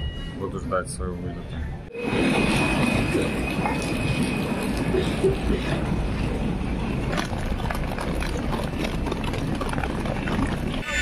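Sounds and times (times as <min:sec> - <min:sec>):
steady rush and low rumble: 0:02.0 - 0:10.8.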